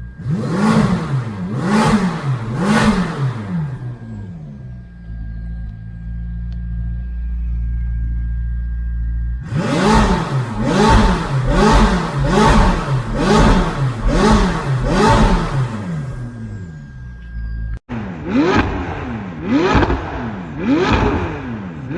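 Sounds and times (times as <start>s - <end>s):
car engine idling: 0.0s - 17.8s
engine throttle blips: 0.0s - 21.9s.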